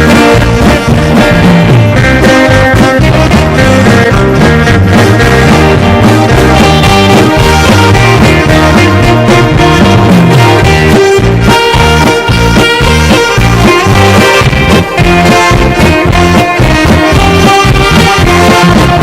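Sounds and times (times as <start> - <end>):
drum kit beat: 0.0 - 19.0
electric guitar: 0.0 - 19.0
electronic keyboard: 0.0 - 19.0
saxophone: 0.0 - 19.0.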